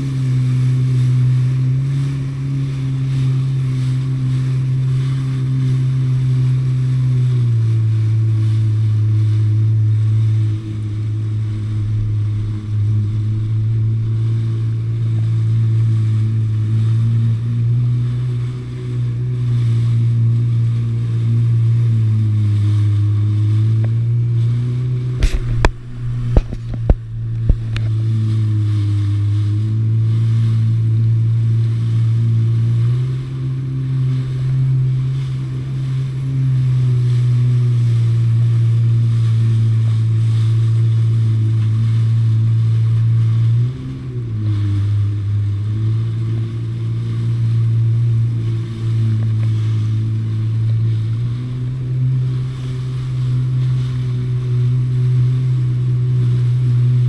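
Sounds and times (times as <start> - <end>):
jet ski engine running: 0.0 - 57.0
wind: 0.0 - 57.0.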